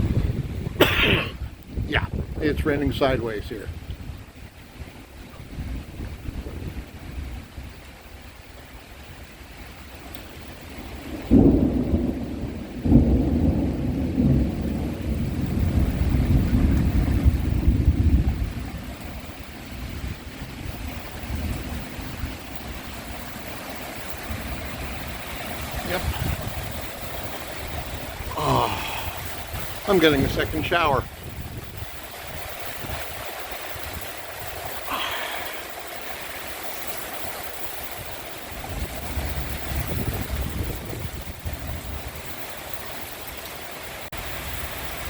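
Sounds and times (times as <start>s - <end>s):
wind buffeting microphone: 0.0s - 9.6s, 10.7s - 35.0s, 37.8s - 43.2s
heavy rain pouring: 0.0s - 45.0s.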